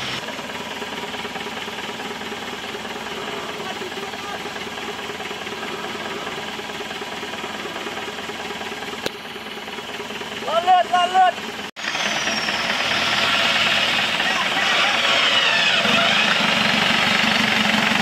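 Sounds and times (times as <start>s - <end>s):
winch motor running with rattle: 0.0s - 18.0s.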